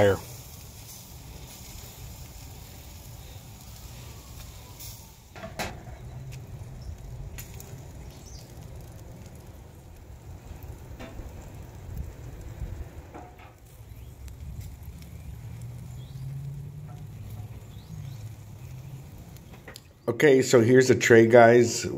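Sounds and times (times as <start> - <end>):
steady low rumble: 0.0 - 19.8
steaks sizzling on a grill: 0.0 - 19.8.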